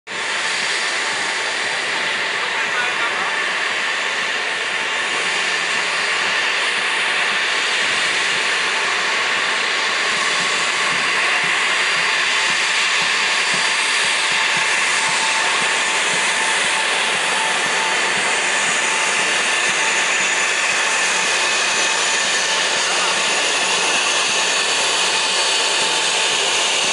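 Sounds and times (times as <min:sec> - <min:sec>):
jet engines whining at taxi: 0:00.1 - 0:26.9.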